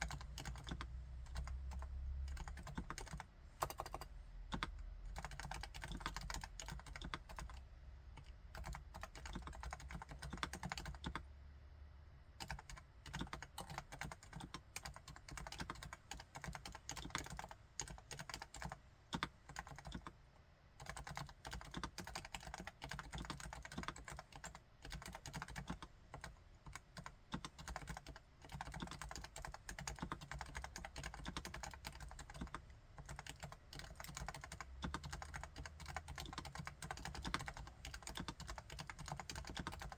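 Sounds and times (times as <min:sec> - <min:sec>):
quiet keyboard typing: 0:00.0 - 0:11.2, 0:12.4 - 0:20.2, 0:20.8 - 0:39.9.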